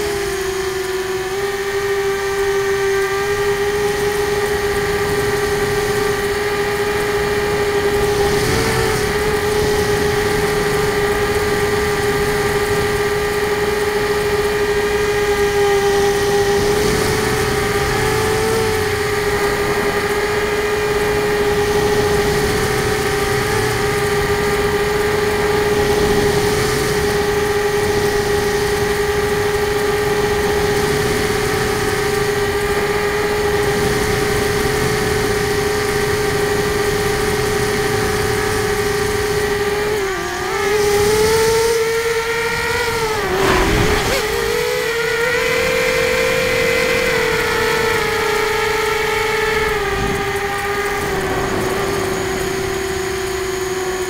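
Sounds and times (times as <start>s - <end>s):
drone propellers whining: 0.0s - 54.0s.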